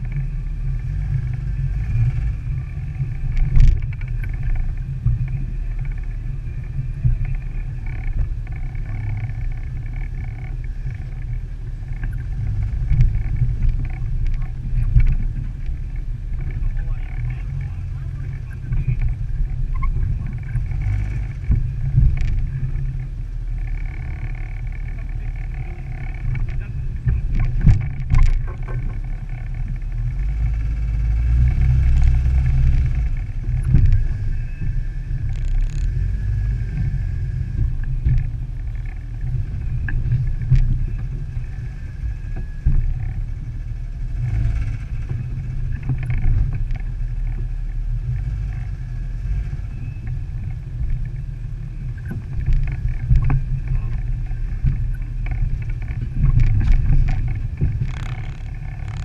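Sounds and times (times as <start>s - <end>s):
engine rumbling at low speed: 0.0s - 59.0s.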